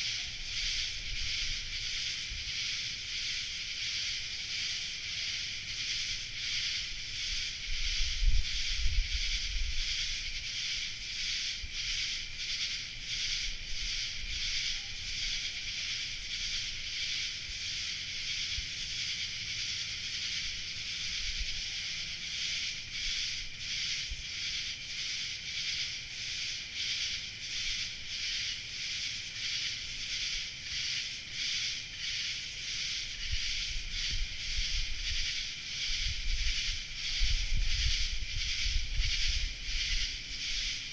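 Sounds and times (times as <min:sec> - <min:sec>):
night insects chirping: 0:00.0 - 0:40.9.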